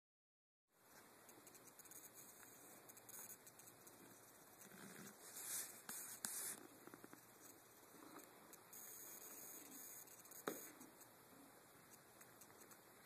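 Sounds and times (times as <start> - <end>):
faint high whine: 0.8 - 13.0.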